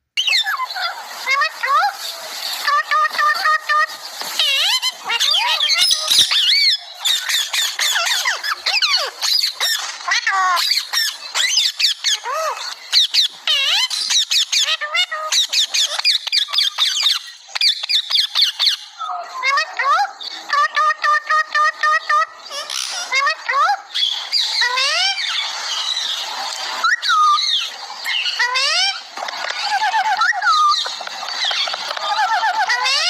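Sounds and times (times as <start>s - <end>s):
parrot squawking and whistling: 0.2s - 26.2s, 26.8s - 33.0s.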